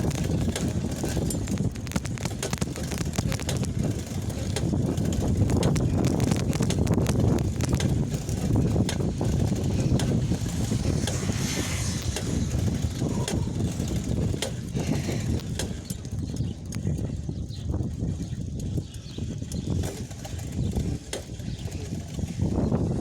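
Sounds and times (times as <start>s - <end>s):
bicycle pedal clicking: 0.0s - 23.0s
bicycle tyres rumbling: 0.0s - 23.0s
wind: 0.0s - 23.0s.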